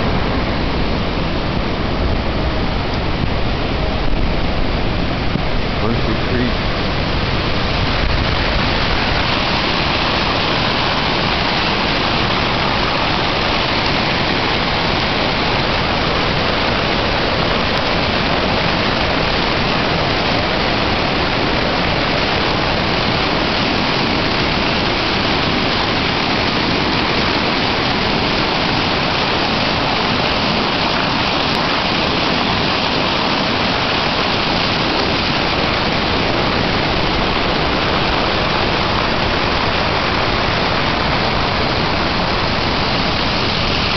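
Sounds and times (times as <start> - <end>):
floodwater rushing over rocks: 0.0 - 43.9.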